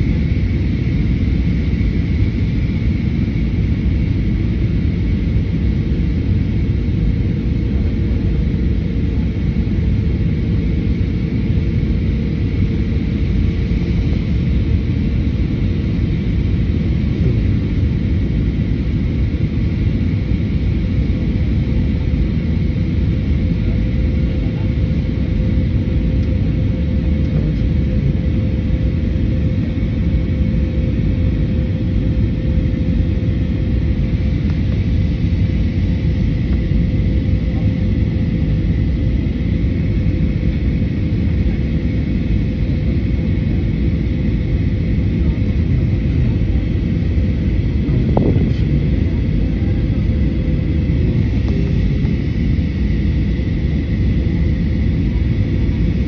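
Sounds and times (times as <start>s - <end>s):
jet cabin engine roar: 0.0s - 56.0s.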